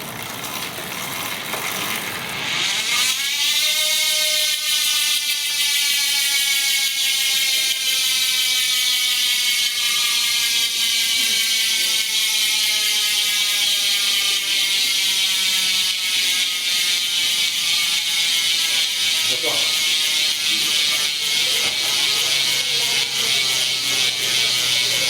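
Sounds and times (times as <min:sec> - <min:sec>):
bicycle freehub ratcheting buzz: 0:00.0 - 0:25.0.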